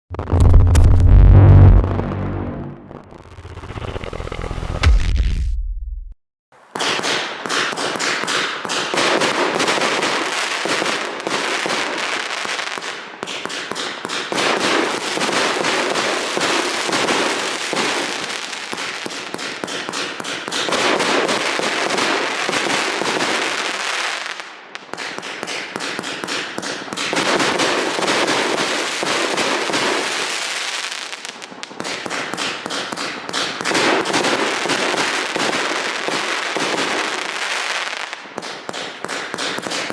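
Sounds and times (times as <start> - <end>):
fireworks barrage of shots and bursts: 6.6 - 39.9.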